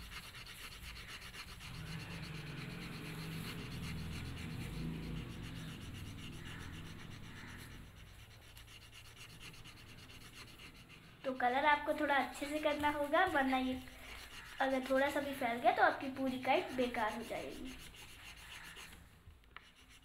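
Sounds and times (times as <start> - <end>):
crayon scratching on paper: 0.0 - 19.0, 19.6 - 20.0.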